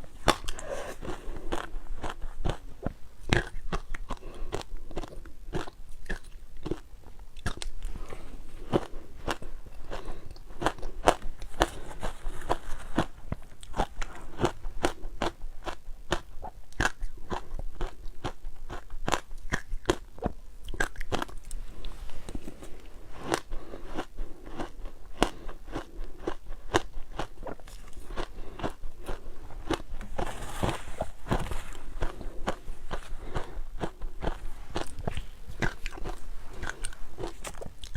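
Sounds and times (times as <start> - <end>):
ice crunching while chewed: 0.1 - 37.9.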